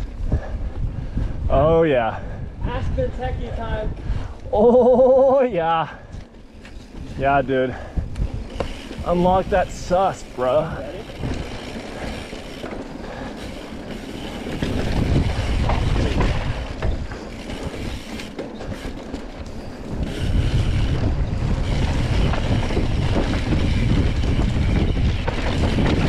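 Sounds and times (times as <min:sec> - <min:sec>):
bike tyres rattling over rough trail: 0:00.0 - 0:26.0
wind buffeting microphone: 0:00.0 - 0:26.0.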